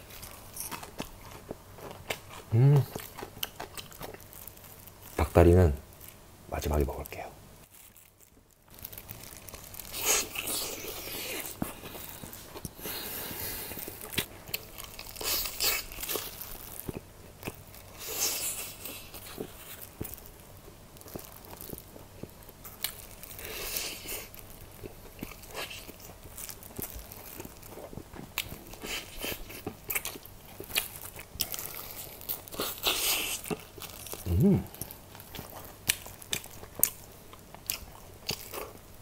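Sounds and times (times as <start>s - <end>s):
soft chewing: 0.0s - 39.0s
crunchy bites into fried chicken: 7.8s - 39.0s.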